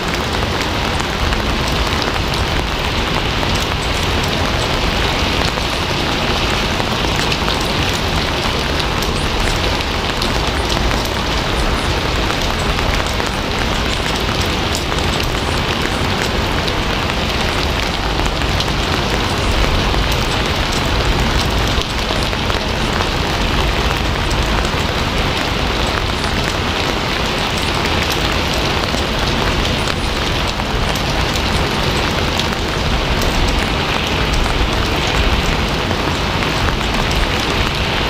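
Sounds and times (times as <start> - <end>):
rain hissing on a surface: 0.0 - 38.0.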